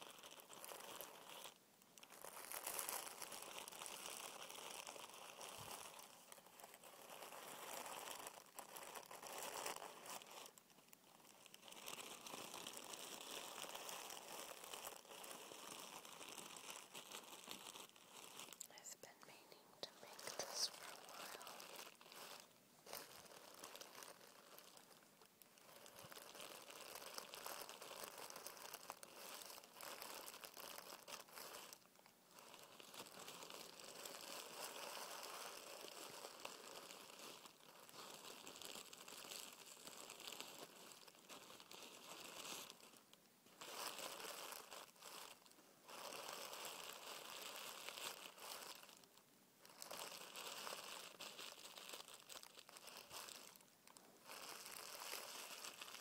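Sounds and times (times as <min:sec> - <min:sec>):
tissue paper crinkling: 0:00.0 - 0:56.0.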